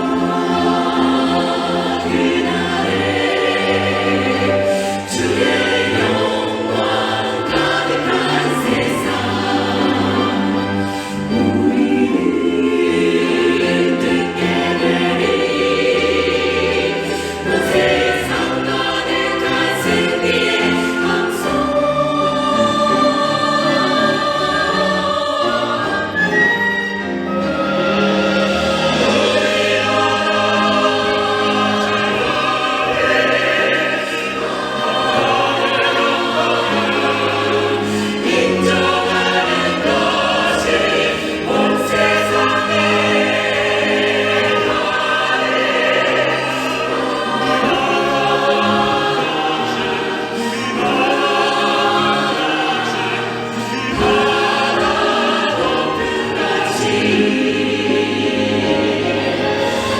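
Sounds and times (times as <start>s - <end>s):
vocal ensemble singing in harmony: 0.0s - 59.9s.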